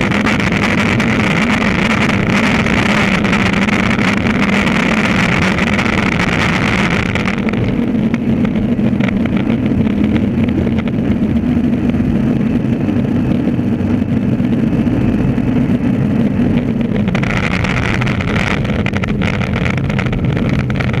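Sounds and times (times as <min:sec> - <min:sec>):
skateboard wheels rolling on asphalt: 0:00.0 - 0:21.0.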